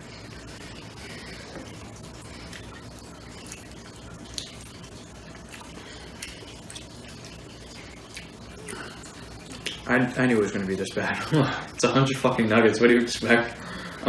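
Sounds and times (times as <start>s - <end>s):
people chewing food: 0.0s - 11.8s.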